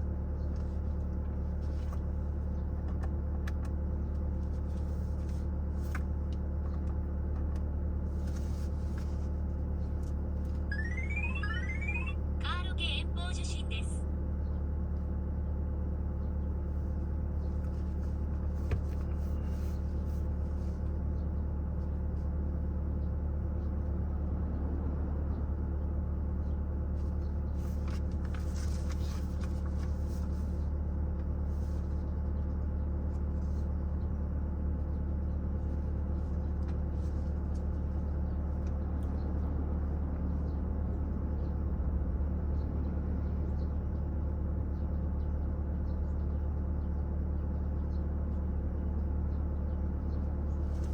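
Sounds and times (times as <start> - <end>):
vehicle engine idling: 0.0 - 50.9.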